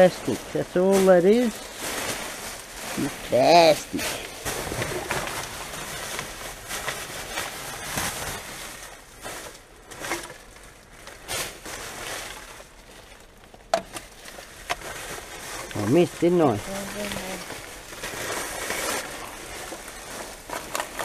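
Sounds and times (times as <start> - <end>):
plastic bags rustling: 0.0 - 21.0.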